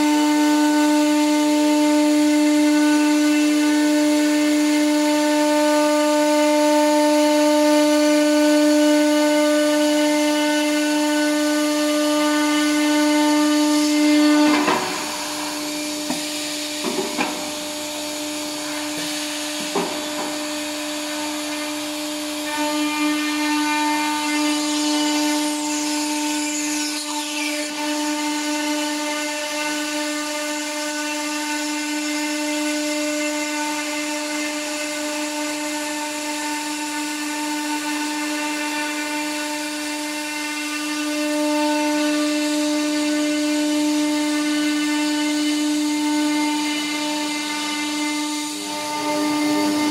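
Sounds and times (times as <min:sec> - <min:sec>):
router cutting wood: 0:00.0 - 0:49.9.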